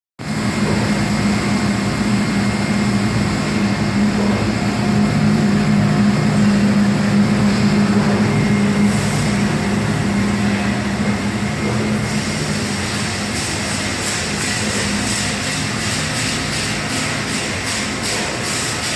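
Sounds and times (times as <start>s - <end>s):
machine hum: 0.2s - 18.9s
thin constant whine: 0.3s - 18.8s.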